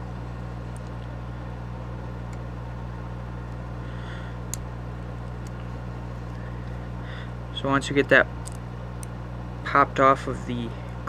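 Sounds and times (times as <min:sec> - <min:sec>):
low hum of fan: 0:00.0 - 0:11.0.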